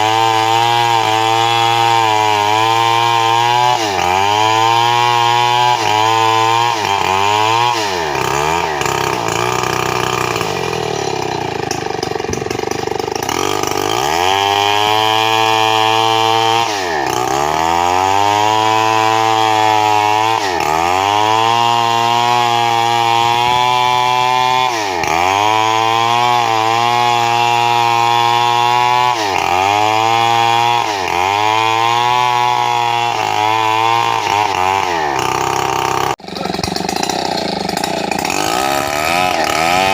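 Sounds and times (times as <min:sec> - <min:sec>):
chainsaw cutting board: 0:00.0 - 0:39.9.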